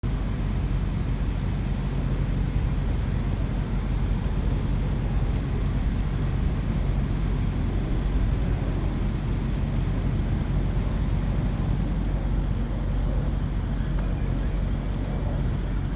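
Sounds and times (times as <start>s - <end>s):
low background rumble: 0.0s - 15.9s.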